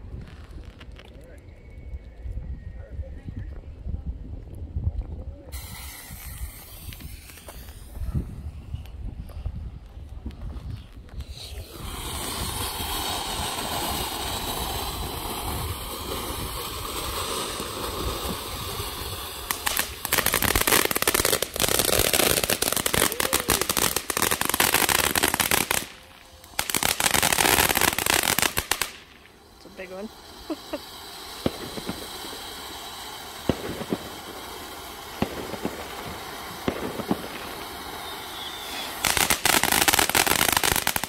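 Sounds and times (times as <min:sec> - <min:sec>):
firework hissing: 0:00.0 - 0:01.2, 0:05.5 - 0:41.0
firework rapid crackling: 0:00.0 - 0:01.2, 0:05.5 - 0:41.0.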